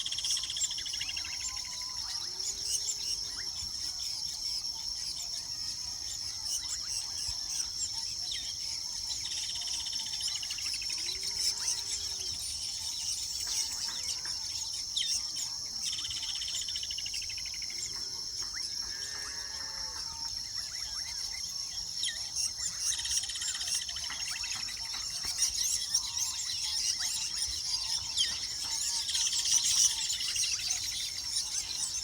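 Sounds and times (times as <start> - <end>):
birds chattering and chirping: 0.0 - 32.0
high insect drone: 0.0 - 32.0.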